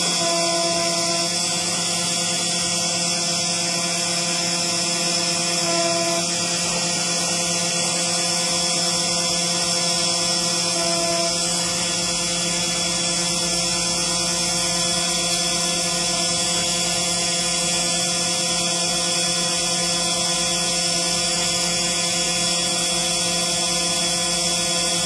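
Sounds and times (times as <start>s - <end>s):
engraving machine drone: 0.0s - 25.0s.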